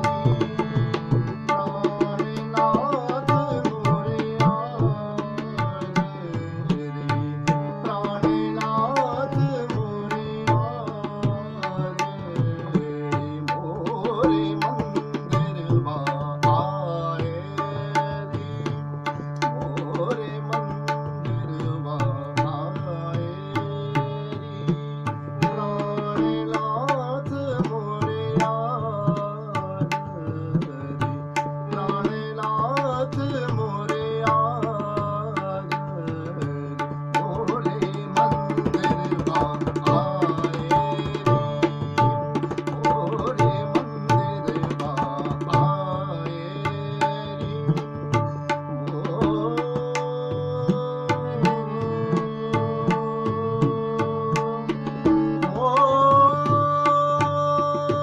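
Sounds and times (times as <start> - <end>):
harmonium: 0.0 - 58.0
man singing: 0.0 - 58.0
tabla strokes: 0.0 - 58.0.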